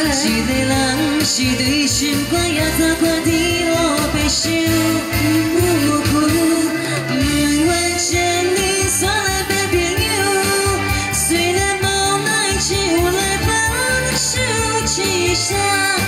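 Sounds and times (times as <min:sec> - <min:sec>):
backing track with bass beat: 0:00.0 - 0:16.0
woman singing into a microphone: 0:00.0 - 0:16.0.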